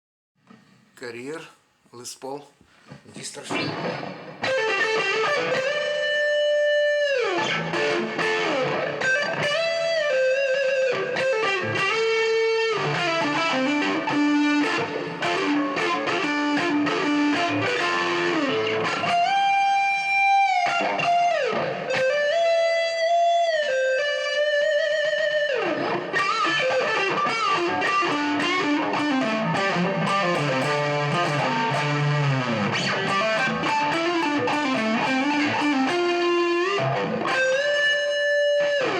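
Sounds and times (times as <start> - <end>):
distorted electric guitar lead: 3.5 - 38.9.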